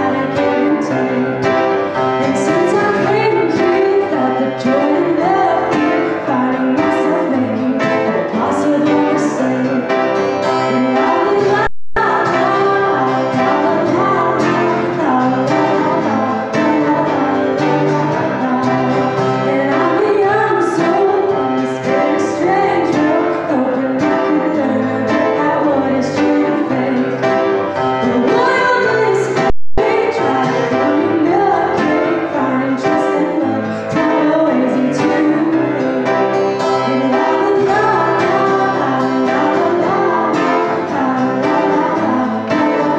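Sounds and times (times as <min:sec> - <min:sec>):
acoustic guitar: 0:00.0 - 0:42.9
woman singing: 0:00.0 - 0:42.9.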